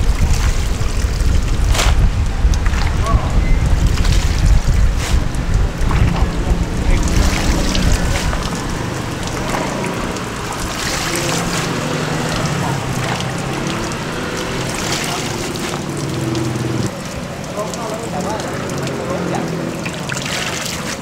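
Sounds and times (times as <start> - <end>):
wind buffeting microphone: 0.0 - 17.0
traffic noise: 0.0 - 21.0
water trickling and dripping: 0.0 - 21.0.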